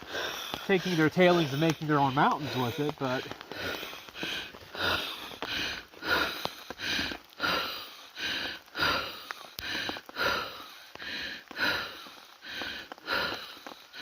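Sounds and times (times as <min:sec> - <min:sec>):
footsteps crunching on wet trail: 0:00.0 - 0:14.0
rain falling: 0:00.0 - 0:14.0.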